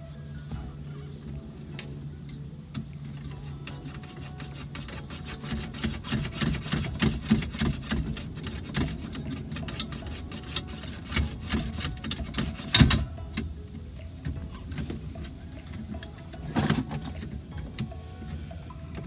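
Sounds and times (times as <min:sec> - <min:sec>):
car radio clicking and rattling: 0:01.1 - 0:19.0.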